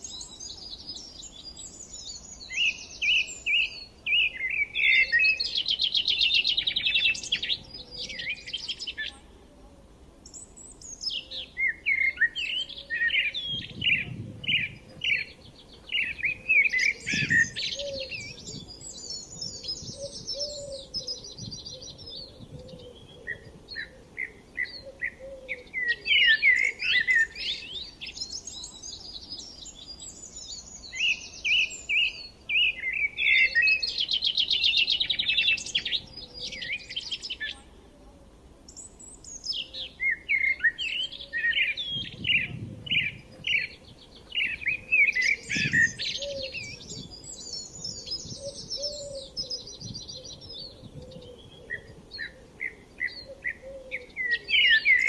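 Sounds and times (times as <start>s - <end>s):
songbirds chirping and singing: 0.0s - 9.3s, 10.2s - 37.9s, 38.6s - 55.0s.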